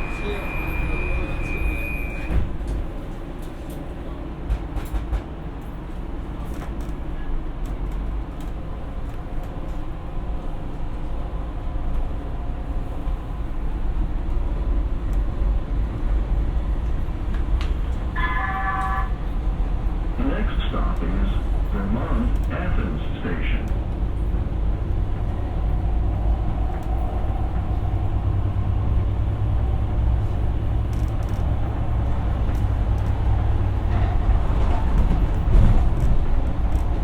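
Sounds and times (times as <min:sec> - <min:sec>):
rail car rumble: 0:00.0 - 0:37.0.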